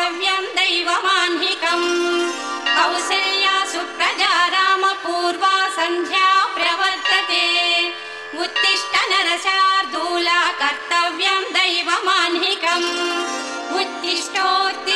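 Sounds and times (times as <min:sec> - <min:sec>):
music with ornamented melody: 0:00.0 - 0:14.9.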